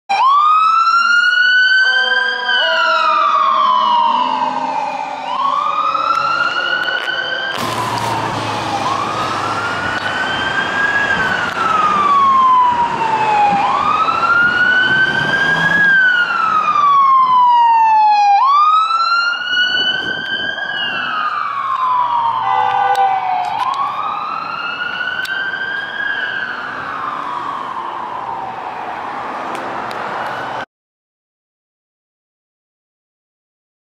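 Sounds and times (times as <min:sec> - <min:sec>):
emergency vehicle siren wailing: 0:00.1 - 0:30.7
road traffic rushing: 0:00.5 - 0:30.7.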